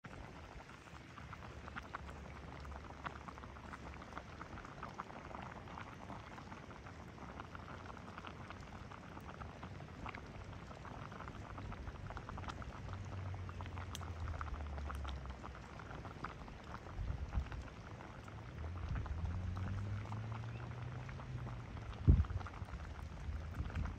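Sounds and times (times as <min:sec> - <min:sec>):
low rumble of fire: 0:00.0 - 0:23.9
pot of water boiling: 0:00.0 - 0:23.9.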